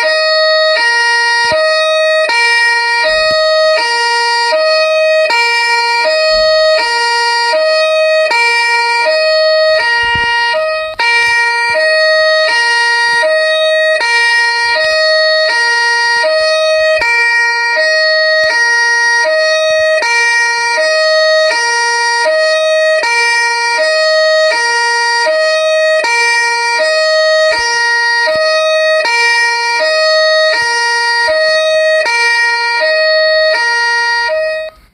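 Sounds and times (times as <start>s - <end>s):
steady high whine: 0.0s - 34.9s
two-tone police siren ringtone: 0.0s - 34.9s.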